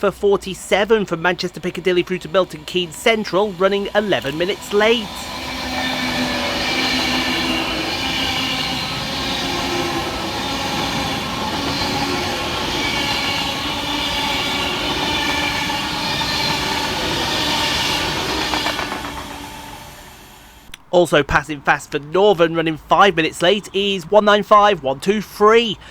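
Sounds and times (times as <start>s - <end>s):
electric train passing fast: 0.0s - 20.8s.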